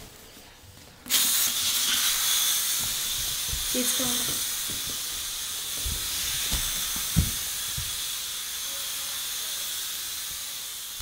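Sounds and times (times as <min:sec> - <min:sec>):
air hissing out of a balloon: 0:01.1 - 0:11.0.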